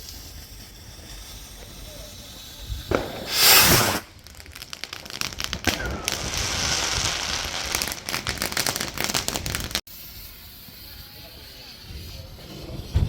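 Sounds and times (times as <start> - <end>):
firework rockets crackling: 0.0 - 13.0
sizzling hiss: 0.0 - 13.0.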